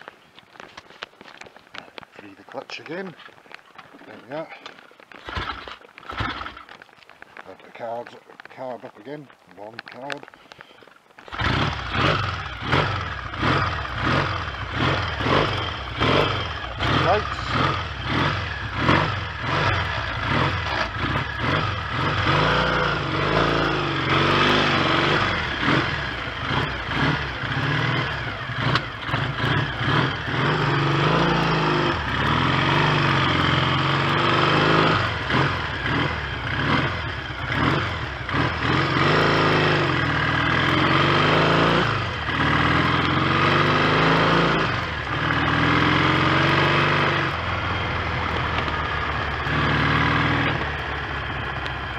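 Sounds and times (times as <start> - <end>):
motorcycle engine revving: 4.1 - 6.8, 11.3 - 51.9.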